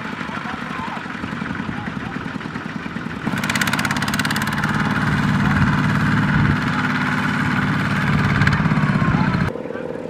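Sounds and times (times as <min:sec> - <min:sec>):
diesel engine running steadily: 0:00.0 - 0:10.0.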